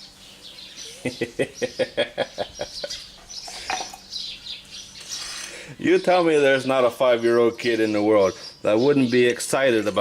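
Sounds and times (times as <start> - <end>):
faint bird chirping: 0.0 - 10.0.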